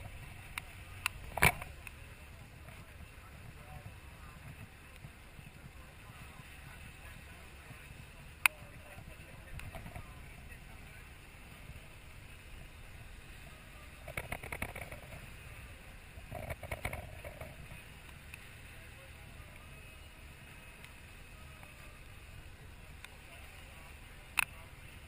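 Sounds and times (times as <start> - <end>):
boat engine running: 0.0 - 25.0.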